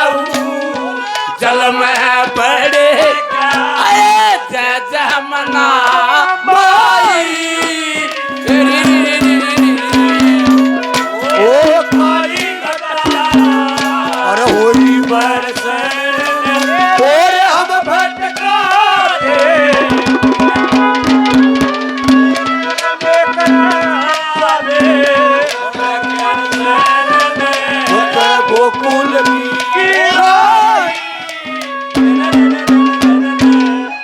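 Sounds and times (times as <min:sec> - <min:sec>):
fast hand-drum beats: 0:00.0 - 0:06.0, 0:07.0 - 0:34.0
folk music with drone and melody: 0:00.0 - 0:34.0
rattling percussion: 0:00.0 - 0:34.0.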